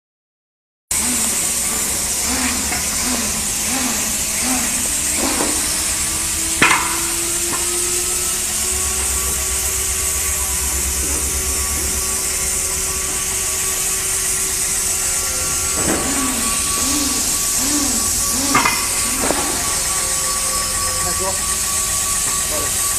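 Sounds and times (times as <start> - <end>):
cnc router hiss and whine: 0.9 - 22.9.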